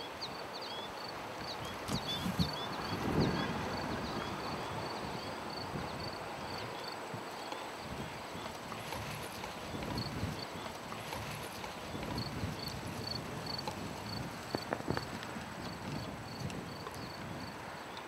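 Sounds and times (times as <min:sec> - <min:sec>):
insect chirping: 0:00.1 - 0:18.0.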